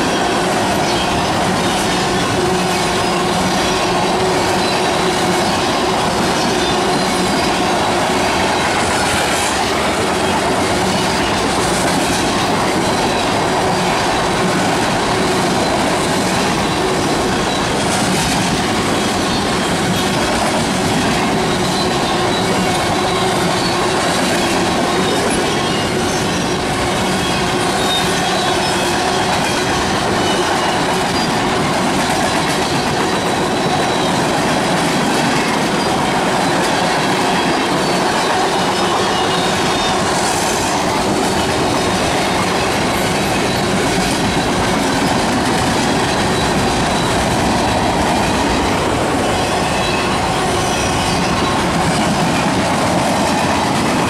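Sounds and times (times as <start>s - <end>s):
clacking from train trucks: 0.0s - 54.0s
steel wheels rolling on rail: 0.0s - 54.0s.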